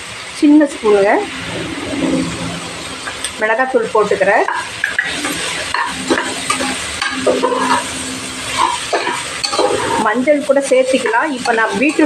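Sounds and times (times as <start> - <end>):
vegetables sizzling in oil: 0.0 - 12.0
metal ladle scraping pot: 0.8 - 12.0.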